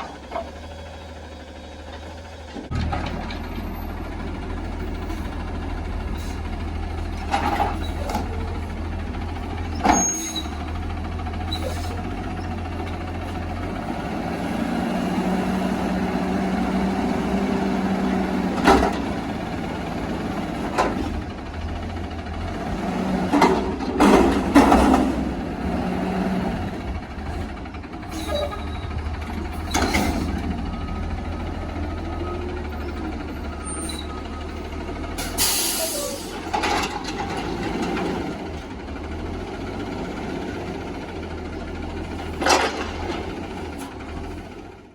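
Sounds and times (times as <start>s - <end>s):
garbage truck engine running: 0.0s - 44.9s.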